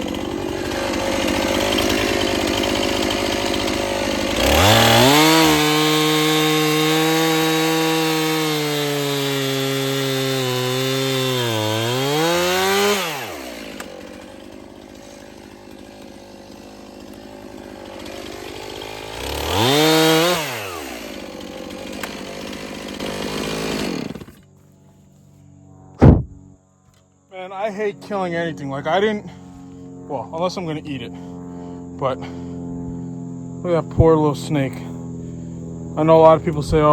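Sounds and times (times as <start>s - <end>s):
chainsaw revving and idling: 0.0s - 24.9s, 26.9s - 36.9s.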